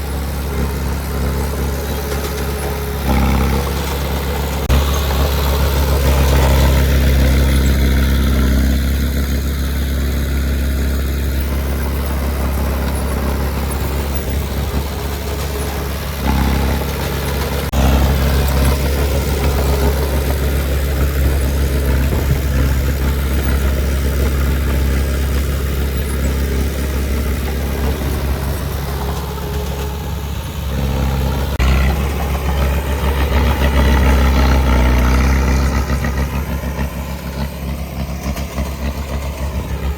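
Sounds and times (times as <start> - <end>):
diesel engine of earthmoving machine: 0.0 - 39.9.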